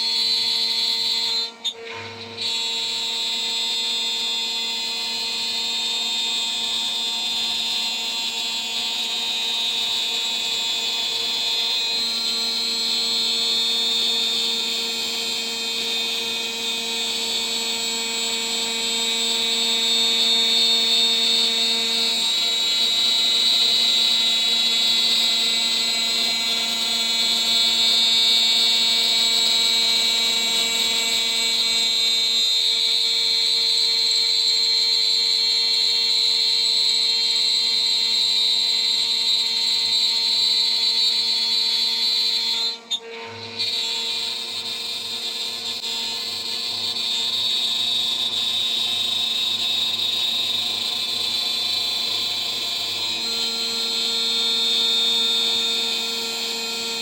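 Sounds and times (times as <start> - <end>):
cnc router spindle whine: 0.0 - 57.0.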